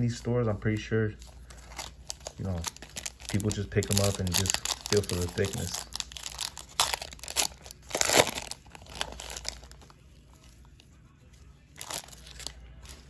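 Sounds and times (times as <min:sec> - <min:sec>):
plastic wrapper tearing and crinkling: 0:00.8 - 0:10.0, 0:11.8 - 0:13.0.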